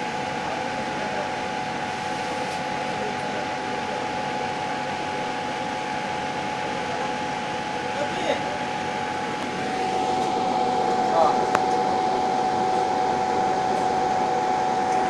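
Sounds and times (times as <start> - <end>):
constant high hum tone: 0.0 - 15.0
laser cutter fan whir: 0.0 - 15.0.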